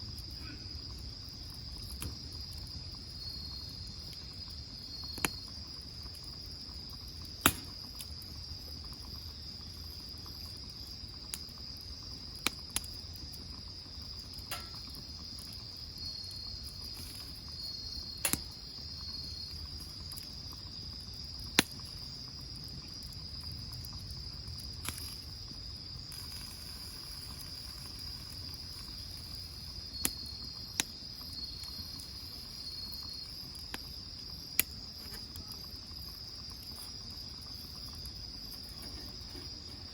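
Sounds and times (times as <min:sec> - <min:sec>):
fainter insect trill: 0:00.0 - 0:39.9
insects trilling: 0:00.0 - 0:39.9
wood fire popping: 0:00.0 - 0:39.9.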